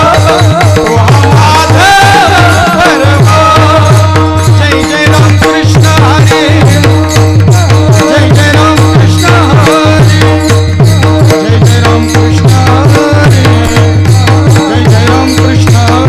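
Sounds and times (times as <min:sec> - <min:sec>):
harmonium chords: 0:00.0 - 0:16.0
low hand drum beating: 0:00.0 - 0:16.0.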